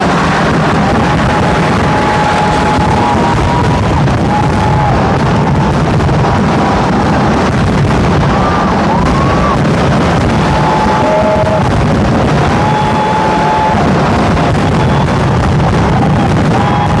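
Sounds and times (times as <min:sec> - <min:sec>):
fireworks exploding: 0:00.0 - 0:17.0
fireworks whistling: 0:00.0 - 0:17.0.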